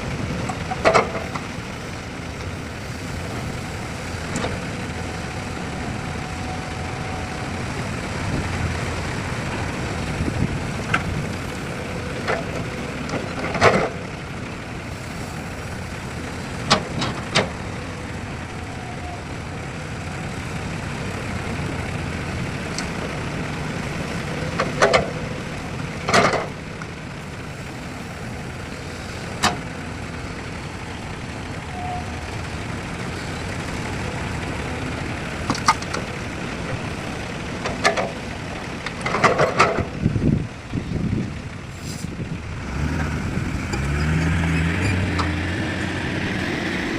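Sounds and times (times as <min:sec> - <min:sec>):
heavy vehicle engine running: 0:00.0 - 0:46.9.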